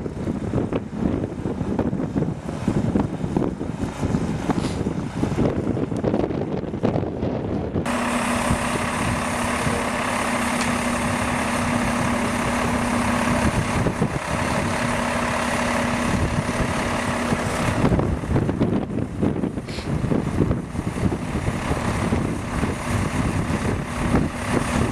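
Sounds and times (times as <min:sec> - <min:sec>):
engine humming: 0:00.0 - 0:24.9.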